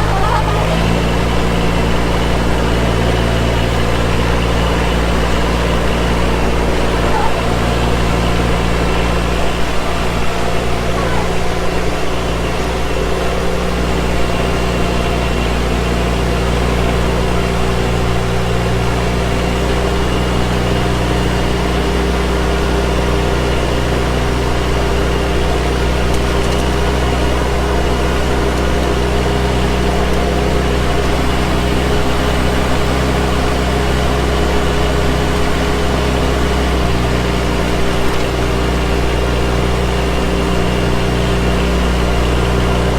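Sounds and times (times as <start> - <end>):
rice transplanter engine running: 0.0 - 42.9.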